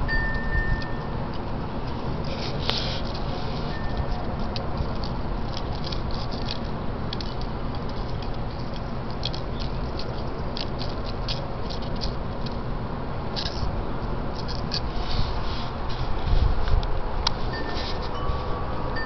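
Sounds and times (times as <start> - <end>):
straw and claws scratching concrete: 0.1 - 12.6, 13.3 - 18.6.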